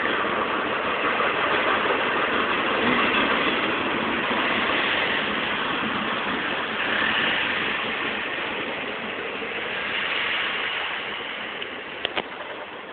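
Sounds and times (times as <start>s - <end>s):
freight train wheels clattering: 0.0s - 12.9s.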